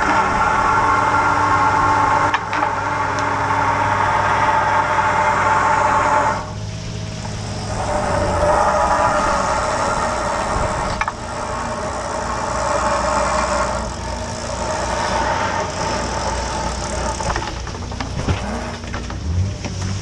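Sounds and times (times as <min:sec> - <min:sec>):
boat engine running: 0:00.0 - 0:20.0
hydraulic pot hauler running: 0:00.0 - 0:20.0.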